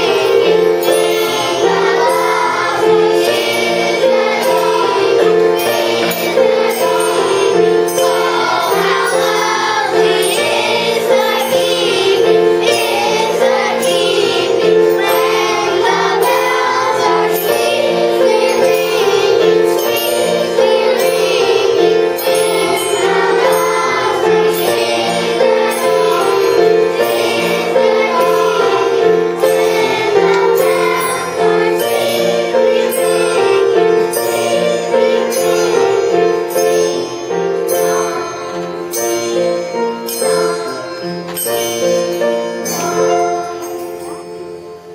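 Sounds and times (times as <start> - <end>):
children's chorus singing: 0.0 - 44.9
rhythmic instrumental accompaniment: 0.0 - 44.9.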